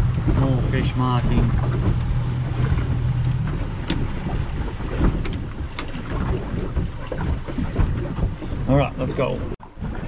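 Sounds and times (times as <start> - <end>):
boat engine humming: 0.0 - 10.0
water noise: 0.0 - 10.0.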